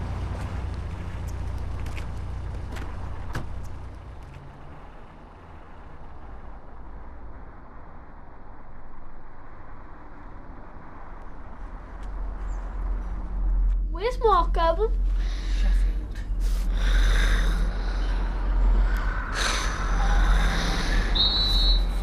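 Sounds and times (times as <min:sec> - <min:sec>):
car engine: 0:00.0 - 0:22.0
low traffic rumble: 0:00.0 - 0:22.0.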